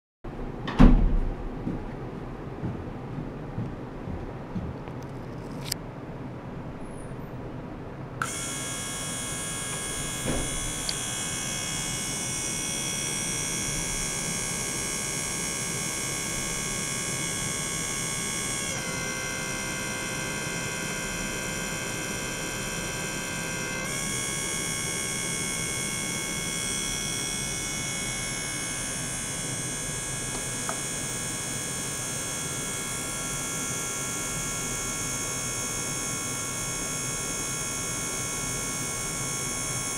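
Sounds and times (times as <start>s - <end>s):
ultrasonic cleaner buzzing hum: 7.7s - 39.9s.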